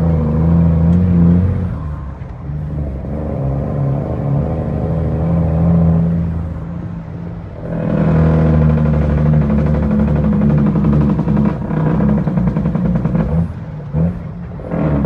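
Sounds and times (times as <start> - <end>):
diesel truck engine under load: 0.0 - 15.0.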